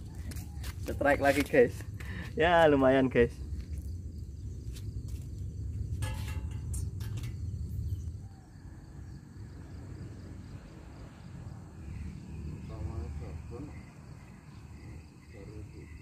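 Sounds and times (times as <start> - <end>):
faint outdoor background noise: 0.0 - 16.0.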